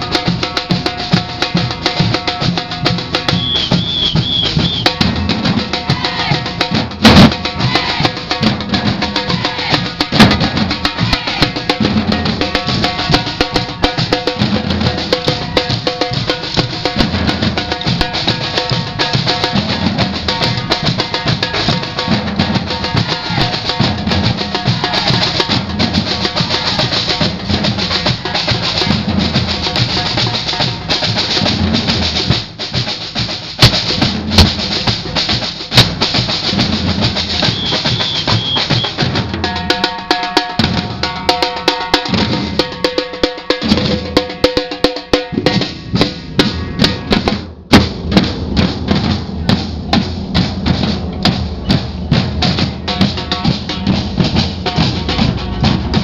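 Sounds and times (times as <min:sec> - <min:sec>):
drums struck with sticks: 0:00.0 - 0:56.0
samba drum band playing: 0:00.0 - 0:56.0
deep bass drums: 0:01.2 - 0:39.5, 0:45.3 - 0:56.0.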